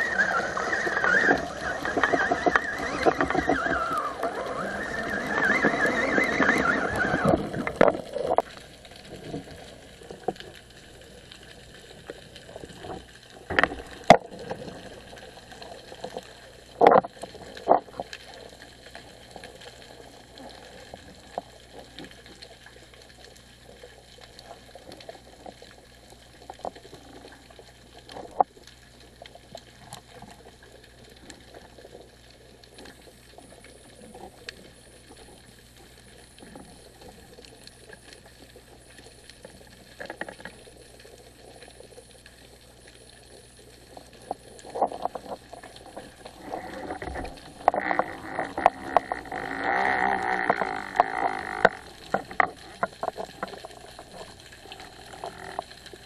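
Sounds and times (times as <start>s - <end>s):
rush of water: 0.0s - 56.0s
underwater clicks: 0.0s - 56.0s
underwater water noise: 0.0s - 56.0s.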